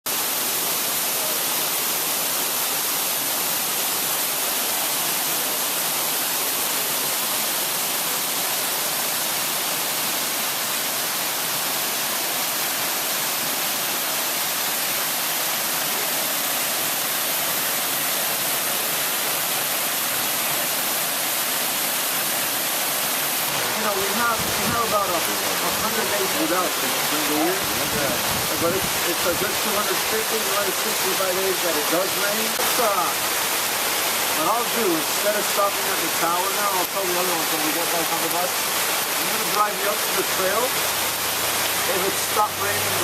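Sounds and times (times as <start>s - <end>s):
waterfall rushing: 0.1s - 43.0s.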